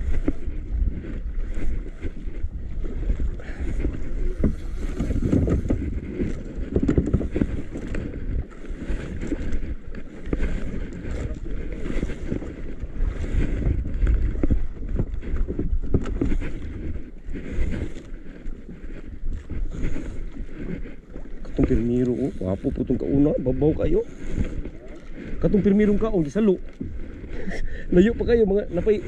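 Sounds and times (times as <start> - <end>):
sea noise: 0.0 - 29.0
wind buffeting microphone: 0.0 - 29.0.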